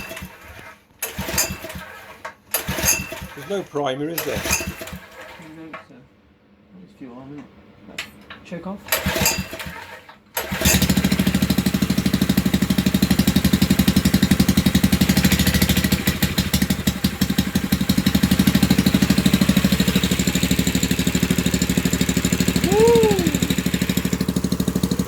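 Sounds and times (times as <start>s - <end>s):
small engine running: 0.0s - 5.5s, 8.9s - 25.0s.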